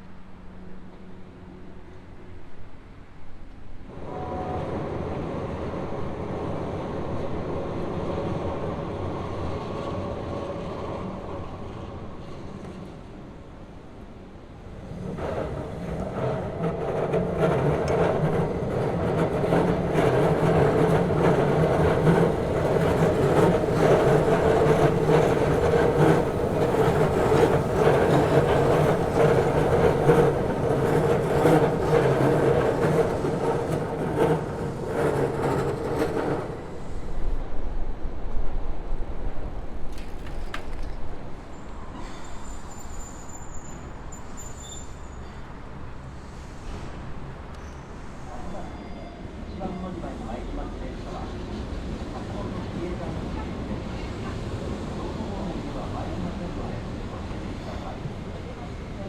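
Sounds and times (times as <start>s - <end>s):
train running past: 0.0s - 59.0s.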